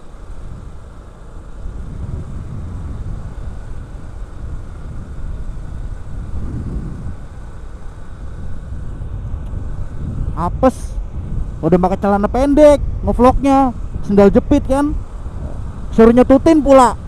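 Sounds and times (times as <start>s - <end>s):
motorcycle rumbling: 0.0s - 17.0s
wind on microphone: 0.0s - 17.0s.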